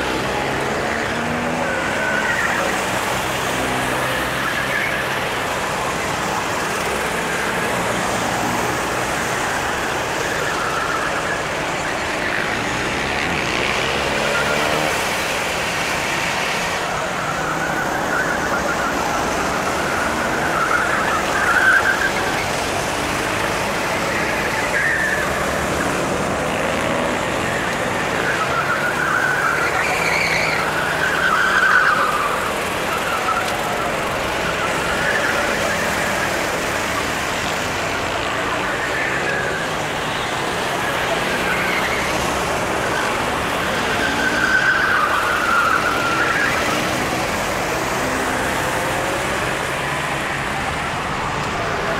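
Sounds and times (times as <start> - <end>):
go-kart engines passing: 0.0 - 51.9.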